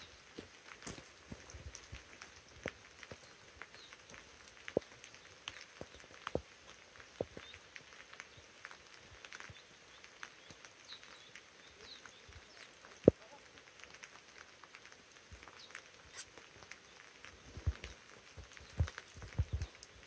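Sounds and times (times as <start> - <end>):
faint rain hiss: 0.0 - 20.0
raindrops ticking: 0.0 - 20.0.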